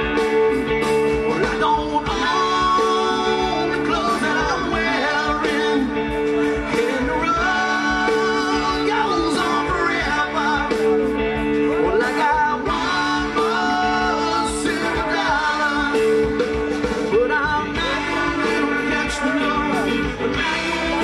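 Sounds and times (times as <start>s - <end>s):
rock band playing: 0.0s - 21.0s
person singing: 1.0s - 21.0s.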